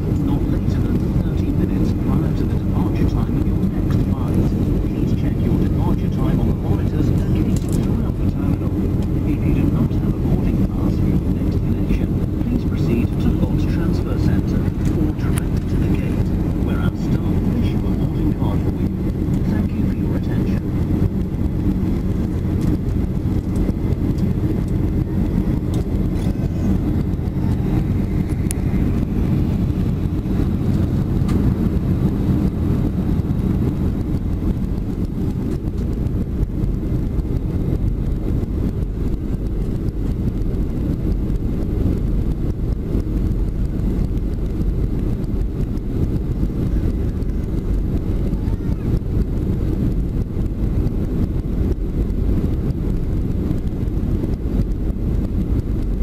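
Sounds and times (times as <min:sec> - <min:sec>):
jet engine roar in cabin: 0:00.0 - 0:56.0
rushing airflow: 0:00.0 - 0:56.0.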